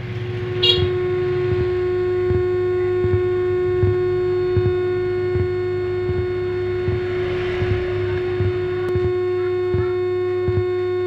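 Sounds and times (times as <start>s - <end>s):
amplifier whine: 0.0s - 11.0s
soft low thumps: 0.0s - 11.0s.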